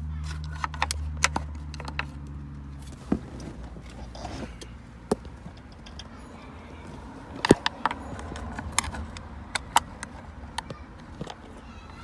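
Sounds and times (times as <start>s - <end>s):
plastic and metal parts clicking: 0.2s - 12.0s.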